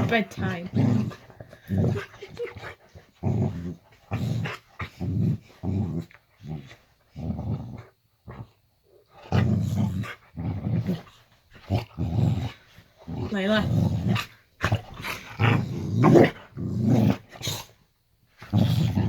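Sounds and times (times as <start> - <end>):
dog growling: 0.0 - 17.8, 18.4 - 19.0.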